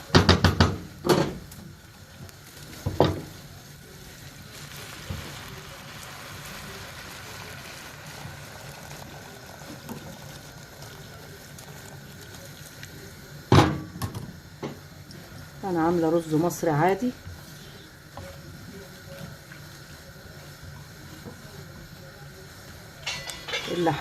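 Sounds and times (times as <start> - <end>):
water pouring into a pot: 1.7 - 24.0.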